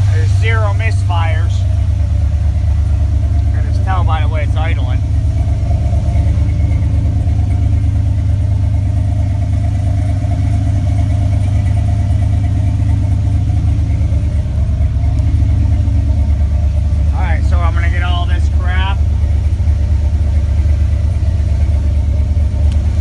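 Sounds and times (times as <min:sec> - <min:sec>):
engine idling unevenly with misfire: 0:00.0 - 0:23.0.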